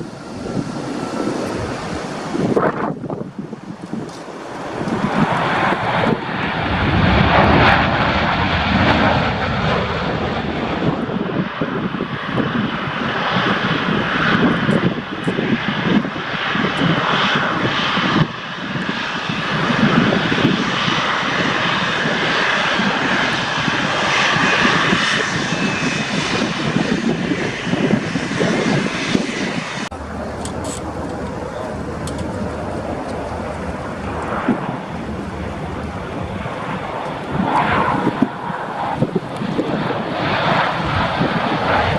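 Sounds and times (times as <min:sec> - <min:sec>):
jet engines passing close: 0:00.0 - 0:41.9
wind fluttering on microphone: 0:00.0 - 0:41.9.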